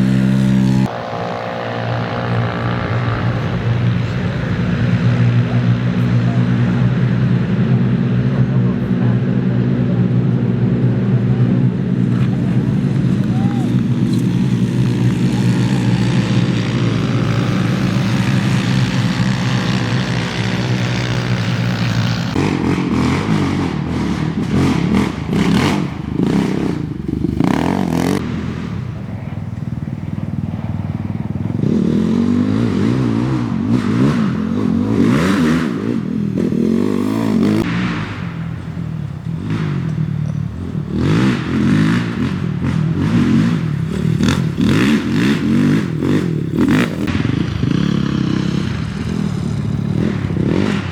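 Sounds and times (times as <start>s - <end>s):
race vehicle engines revving: 0.0s - 50.9s.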